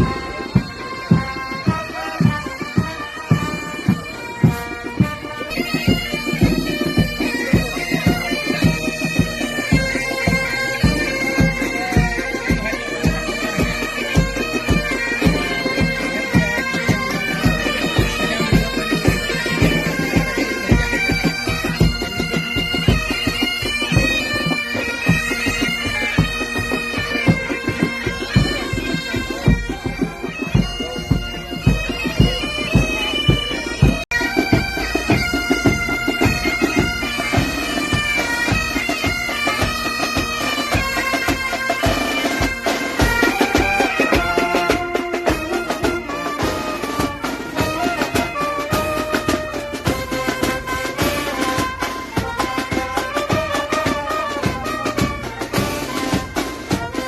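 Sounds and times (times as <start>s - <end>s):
bagpipes playing melody: 0.0s - 57.0s
drums beating march rhythm: 0.0s - 57.0s.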